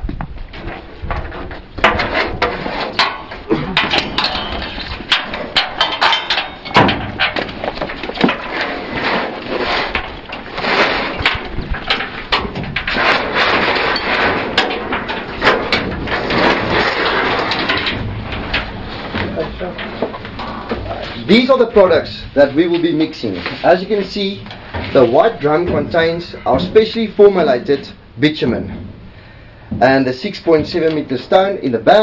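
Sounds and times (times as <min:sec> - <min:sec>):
objects knocking and clattering: 0:00.0 - 0:28.0
rustling: 0:00.0 - 0:31.5.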